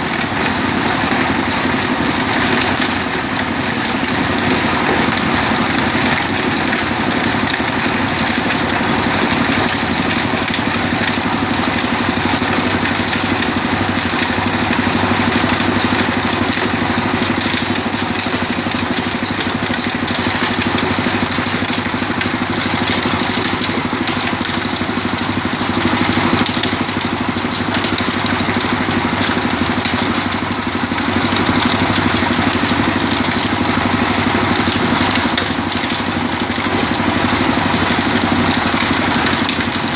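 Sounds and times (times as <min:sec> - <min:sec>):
stone crushing machine running: 0:00.0 - 0:39.9.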